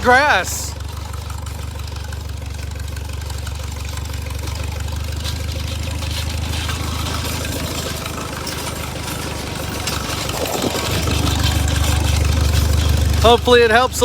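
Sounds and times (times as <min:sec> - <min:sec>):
harrow scraping through gravel: 0:00.0 - 0:14.0
tractor engine running: 0:00.0 - 0:14.0.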